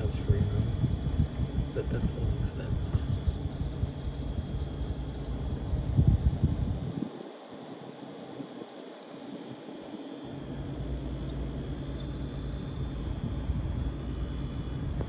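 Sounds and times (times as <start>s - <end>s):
low compressor hum: 0.0s - 15.0s
refrigerator fan running: 0.0s - 15.0s.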